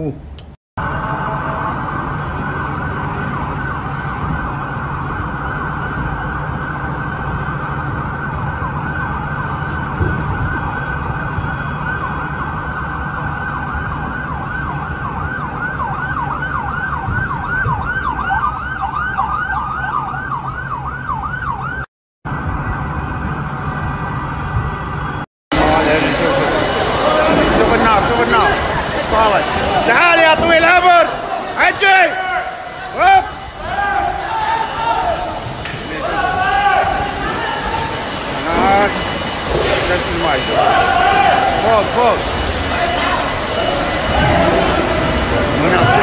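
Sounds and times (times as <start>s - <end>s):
siren fast yelp: 0.8s - 23.0s, 25.0s - 46.0s
emergency sirens wailing: 0.8s - 46.0s.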